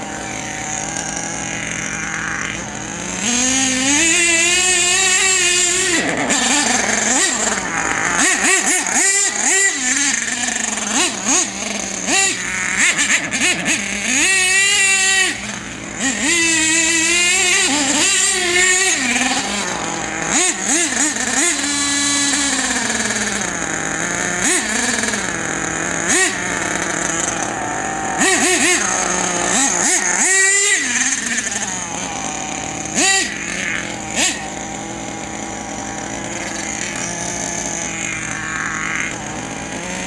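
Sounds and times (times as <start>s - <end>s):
small engine revving high-pitched: 0.0s - 40.0s.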